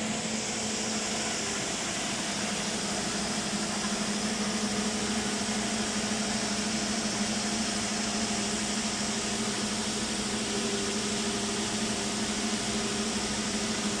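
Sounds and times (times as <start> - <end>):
machine low hum: 0.0 - 14.0.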